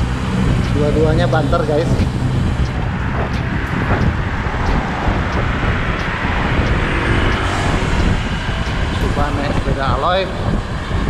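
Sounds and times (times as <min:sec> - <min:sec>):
passing car traffic: 0:00.0 - 0:11.0
road noise: 0:00.0 - 0:11.0
wind noise on microphone: 0:00.0 - 0:11.0.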